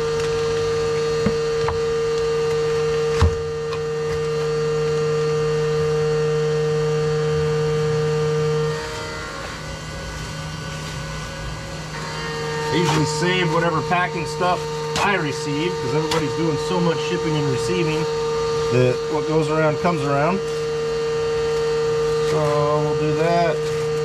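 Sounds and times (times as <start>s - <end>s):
milling machine humming: 0.0s - 24.0s.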